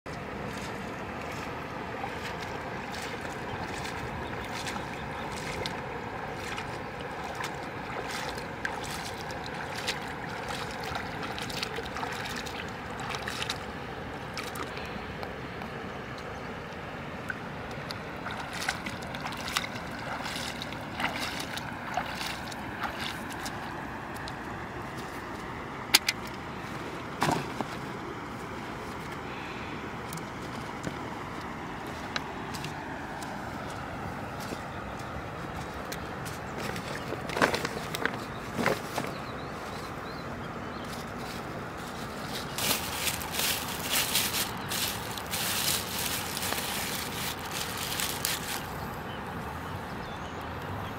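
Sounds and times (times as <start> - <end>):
feet splashing in shallow water: 0.1 - 49.4.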